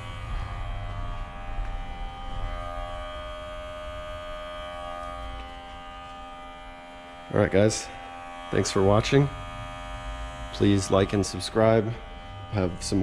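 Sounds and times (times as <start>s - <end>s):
electric air pump buzzing hum: 0.0s - 13.0s.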